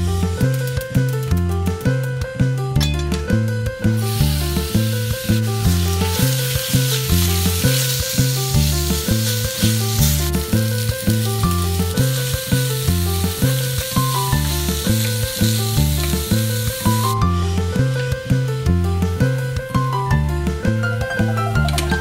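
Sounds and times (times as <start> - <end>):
meat sizzling in hot oil: 0.0 - 2.0, 3.3 - 22.0
background music with steady beat: 0.0 - 22.0.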